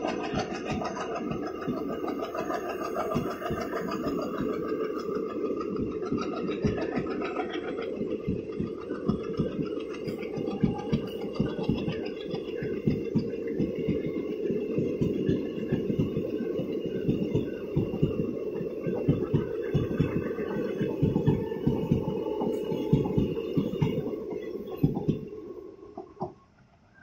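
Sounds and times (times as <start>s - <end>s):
train wheels clattering on rails: 0.0s - 26.5s
low rumble of train: 0.0s - 27.0s.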